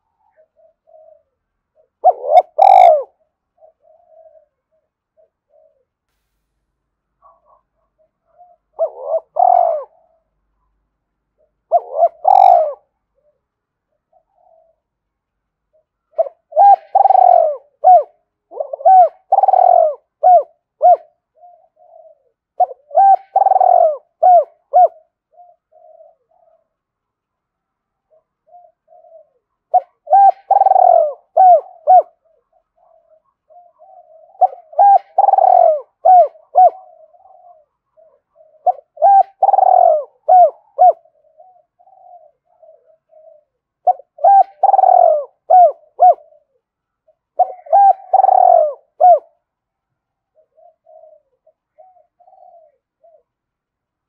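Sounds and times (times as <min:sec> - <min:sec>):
dove cooing: 0:00.0 - 0:06.0, 0:07.2 - 0:27.2, 0:28.0 - 0:49.5, 0:50.2 - 0:53.4.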